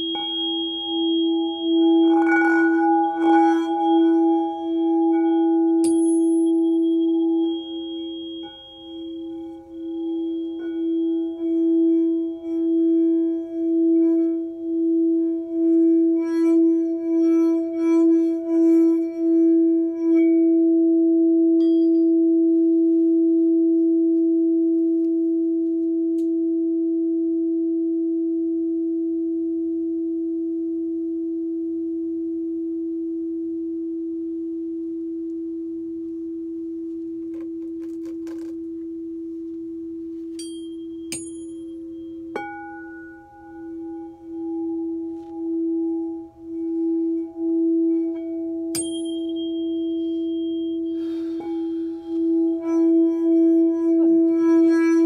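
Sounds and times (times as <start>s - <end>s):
singing bowl low tone: 0.0s - 55.0s.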